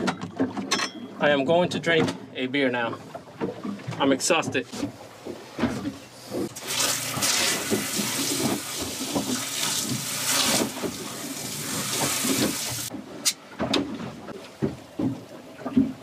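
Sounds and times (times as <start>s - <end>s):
water splashing against boat hull: 0.0s - 16.0s.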